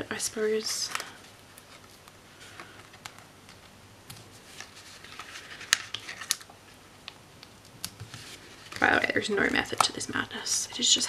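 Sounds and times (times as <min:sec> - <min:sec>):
paper rustling: 0:00.1 - 0:06.9, 0:07.8 - 0:11.0.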